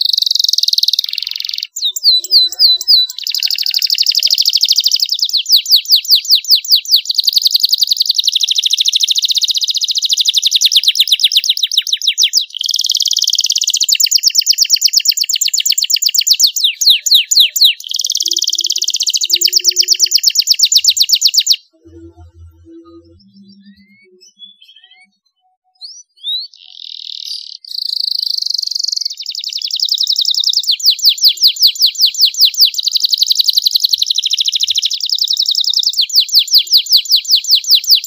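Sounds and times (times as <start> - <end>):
canary singing trills: 0.0 - 38.0.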